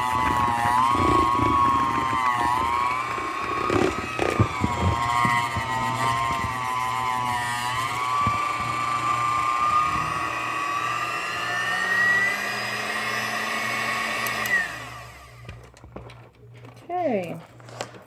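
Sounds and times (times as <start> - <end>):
electric hand mixer whining: 0.0 - 15.6.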